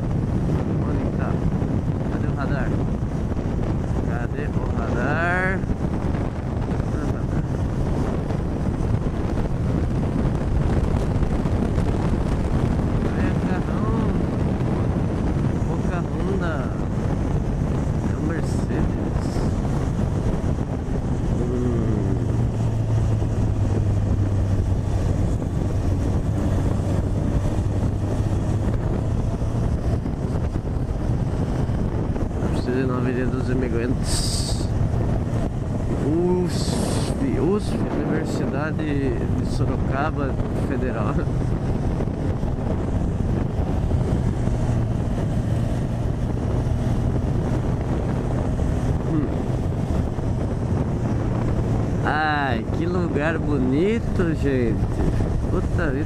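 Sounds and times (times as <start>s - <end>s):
motorcycle engine droning: 0.0s - 56.0s
wind rush on microphone: 0.0s - 56.0s.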